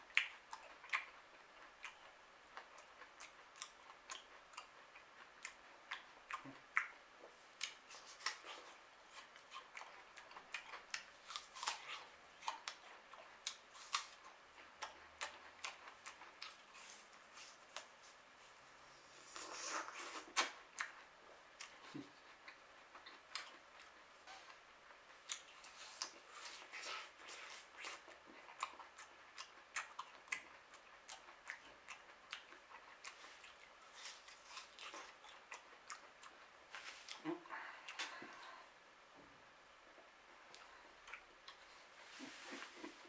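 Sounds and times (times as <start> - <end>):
person chewing crisp apple: 0.1 - 18.2, 19.0 - 38.6, 40.5 - 43.0.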